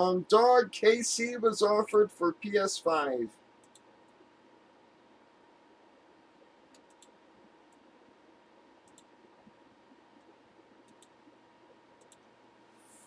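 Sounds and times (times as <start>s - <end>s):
faint room hiss: 0.0s - 13.0s.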